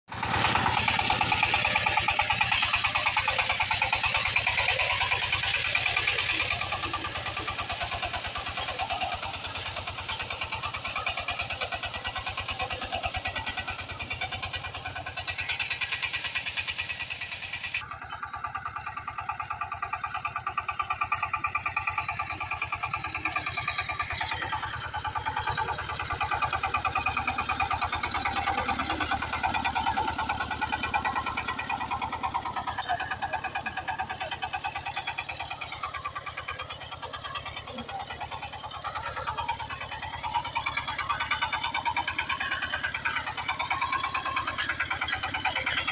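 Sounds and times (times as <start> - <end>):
tractor engine running under load: 0.1 - 45.9.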